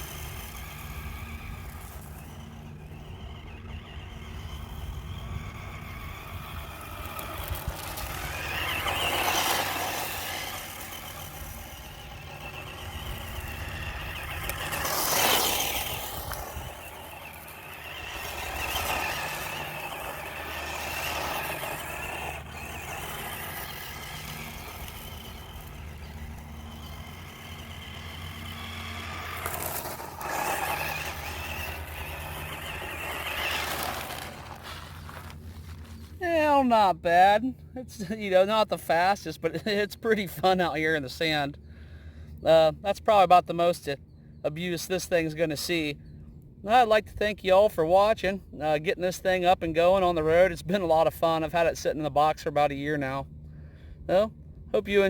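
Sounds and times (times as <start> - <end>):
rc car motor and gears whining: 0.0 - 41.7, 42.3 - 55.0.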